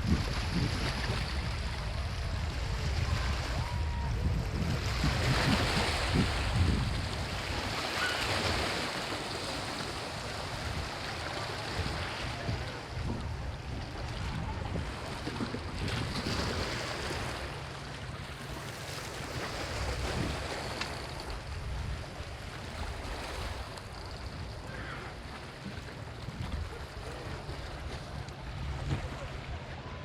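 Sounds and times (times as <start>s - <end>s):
wind rumbling on microphone: 0.0s - 8.7s, 10.2s - 17.8s, 18.4s - 30.0s
sea waves washing onto beach: 0.0s - 30.0s.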